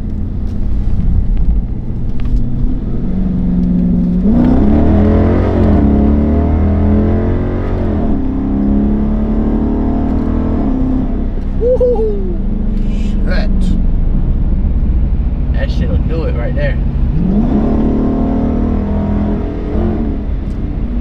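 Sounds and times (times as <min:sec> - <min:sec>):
car engine under full throttle: 0:00.0 - 0:21.0.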